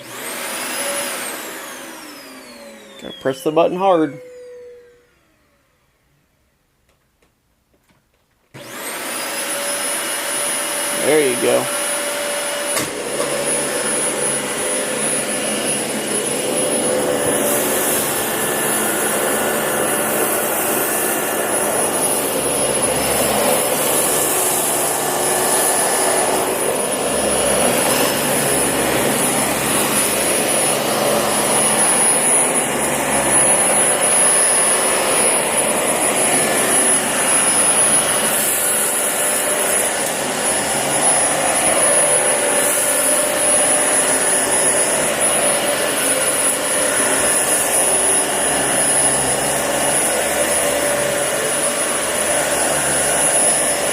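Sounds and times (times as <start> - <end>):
vacuum cleaner motor whine: 0.0 - 6.1, 8.6 - 53.9.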